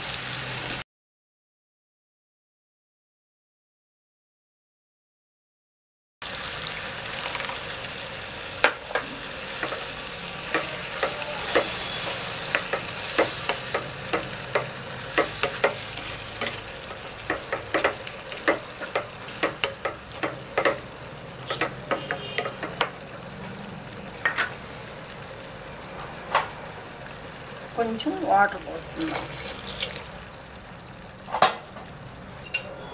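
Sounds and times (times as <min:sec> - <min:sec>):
curry sizzling in a frying pan: 0:00.0 - 0:00.8, 0:06.2 - 0:32.9.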